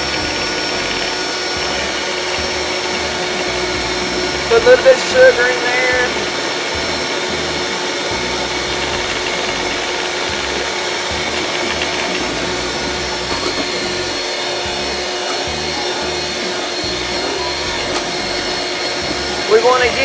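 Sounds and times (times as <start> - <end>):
electric mixer whipping cream: 0.0 - 20.0.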